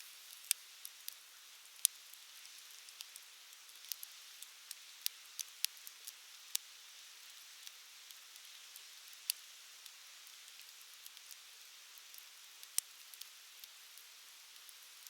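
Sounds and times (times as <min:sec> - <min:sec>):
fire crackles and pops: 0:00.1 - 0:15.0.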